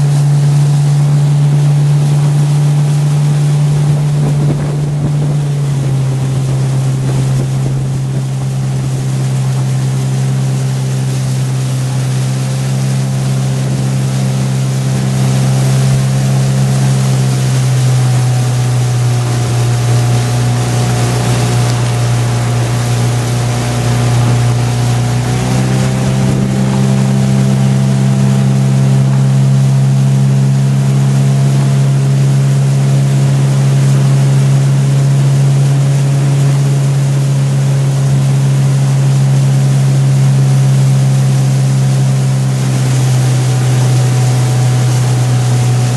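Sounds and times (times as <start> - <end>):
outboard motor running: 0.0 - 45.9
water and wind hiss: 0.0 - 45.9.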